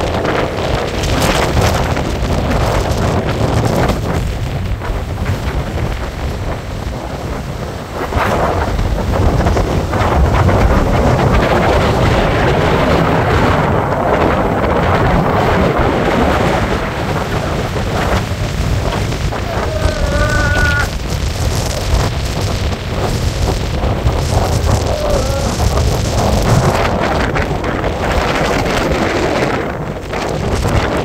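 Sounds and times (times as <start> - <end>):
surf breaking on shore: 0.0 - 31.0
wind buffeting the microphone: 0.0 - 31.0.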